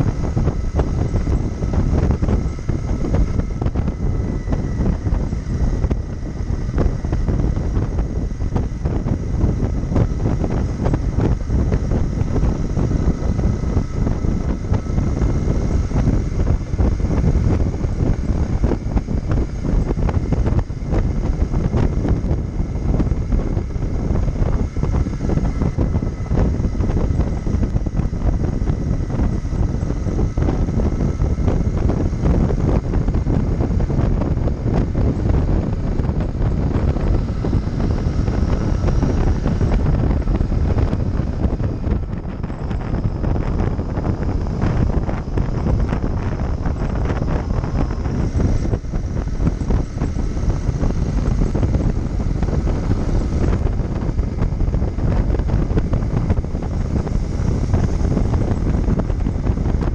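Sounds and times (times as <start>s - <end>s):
motorcycle engine cruising: 0.0s - 59.9s
wind buffeting microphone: 0.0s - 59.9s.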